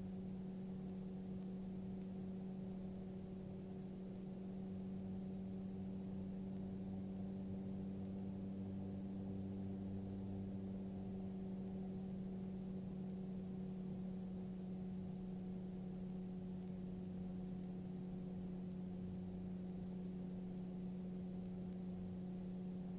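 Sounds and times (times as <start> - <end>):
muffled engine and propeller drone: 0.0 - 22.9.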